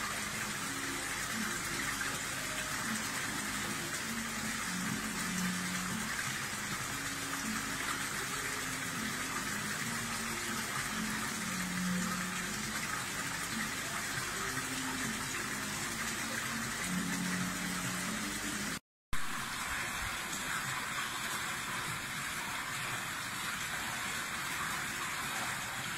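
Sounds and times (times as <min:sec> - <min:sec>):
water gushing into pond: 0:00.0 - 0:25.9.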